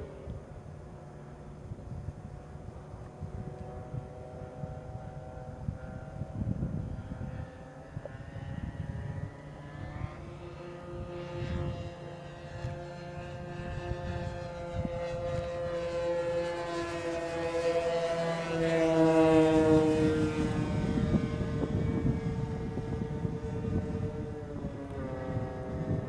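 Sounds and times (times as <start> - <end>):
model airplane engines droning: 0.0 - 26.0.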